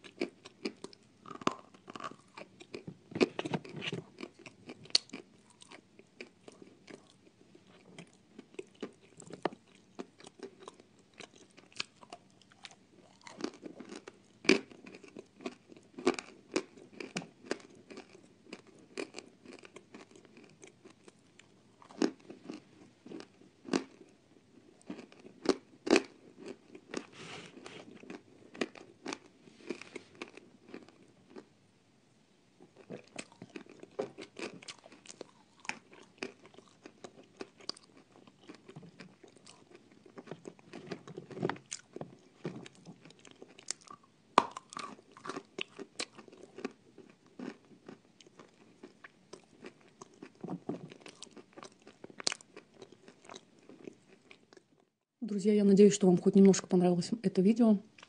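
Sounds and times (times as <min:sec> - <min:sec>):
grinding chewing: 0:00.0 - 0:31.4, 0:32.8 - 0:54.6.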